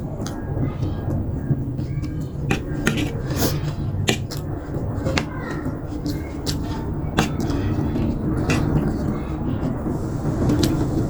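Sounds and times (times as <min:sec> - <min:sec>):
chewing clicks and smacks: 0:00.0 - 0:11.0
noodle slurp: 0:00.0 - 0:11.0.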